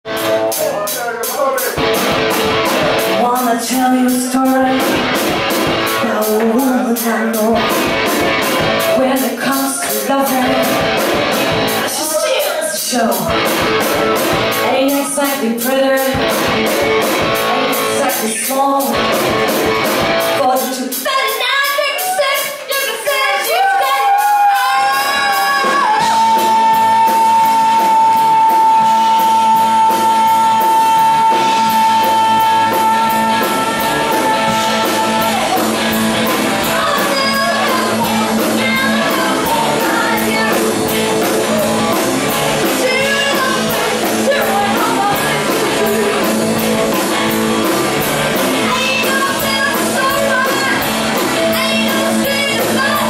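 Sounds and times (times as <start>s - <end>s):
bass guitar: 0.0s - 12.2s, 12.9s - 20.7s, 23.7s - 53.0s
electric guitar: 0.0s - 20.9s, 23.6s - 53.0s
drums: 0.0s - 53.0s
woman singing lead vocals: 3.1s - 5.2s, 5.9s - 7.9s, 8.8s - 11.0s, 11.8s - 13.4s, 14.6s - 16.4s, 17.7s - 19.1s, 20.3s - 47.3s, 48.6s - 53.0s.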